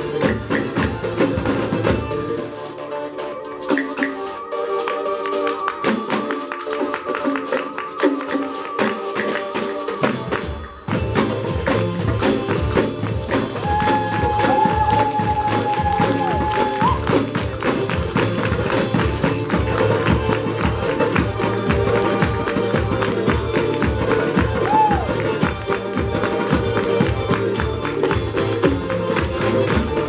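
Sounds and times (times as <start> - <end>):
tambourines and hand percussion: 0.0 - 30.0.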